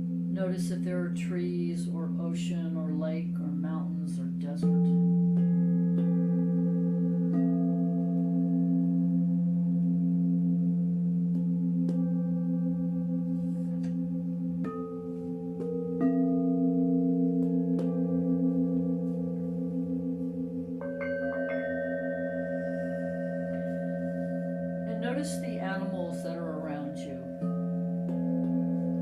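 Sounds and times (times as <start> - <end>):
singing bowls ringing: 4.1 - 29.0.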